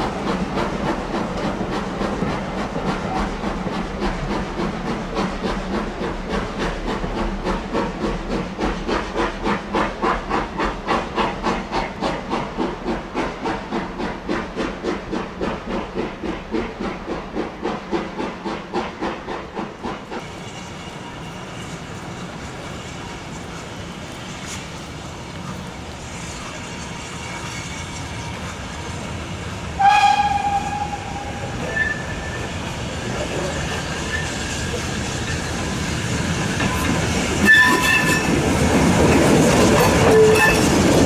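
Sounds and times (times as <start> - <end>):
steam locomotive exhaust chuffing: 0.0 - 41.0.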